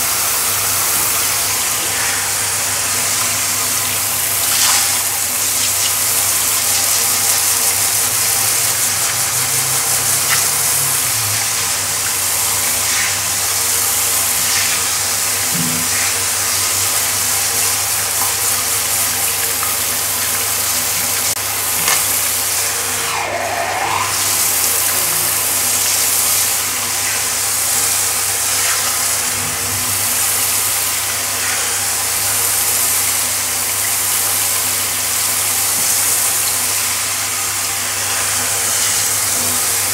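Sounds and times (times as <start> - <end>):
shower spraying on tiled floor: 0.0 - 39.9.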